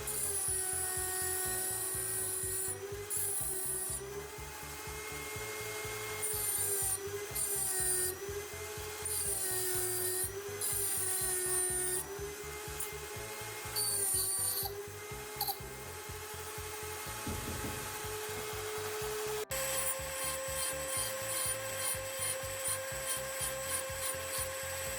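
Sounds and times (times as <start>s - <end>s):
hissy grinding: 0.0s - 15.9s, 16.8s - 24.9s
power tool motor whining: 0.0s - 24.9s.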